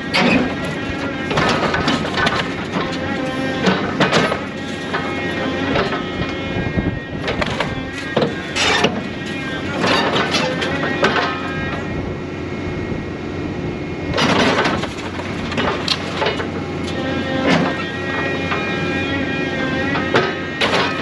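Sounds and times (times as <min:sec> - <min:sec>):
scrap metal scraping and crunching: 0:00.0 - 0:11.9, 0:14.2 - 0:21.0
diesel engine running: 0:00.0 - 0:21.0.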